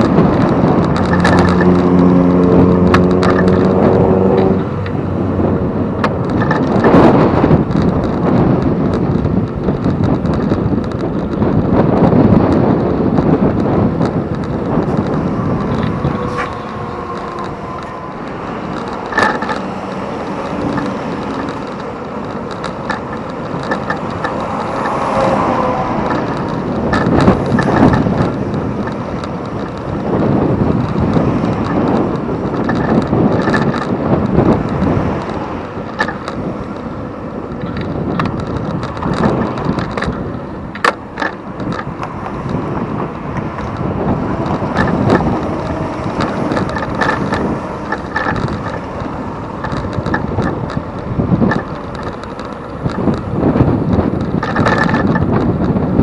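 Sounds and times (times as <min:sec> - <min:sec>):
bike clicks and rattles: 0:00.0 - 0:56.0
road and traffic noise: 0:00.0 - 0:56.0
wind rushing over microphone: 0:00.0 - 0:56.0.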